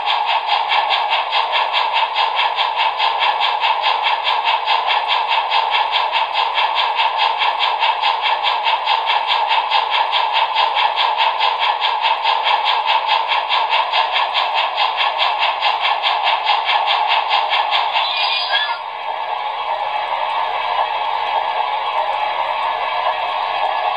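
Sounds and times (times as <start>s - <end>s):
steam locomotive chuffs: 0.0s - 23.9s.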